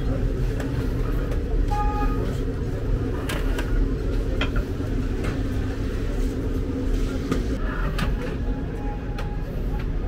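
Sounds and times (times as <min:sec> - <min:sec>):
low rumble of street noise: 0:00.0 - 0:10.0.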